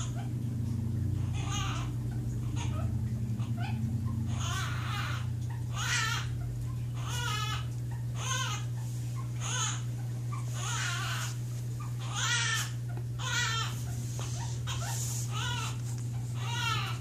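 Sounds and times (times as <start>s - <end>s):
steady low hum: 0.0s - 17.0s
parrot wailing cries: 1.1s - 17.0s.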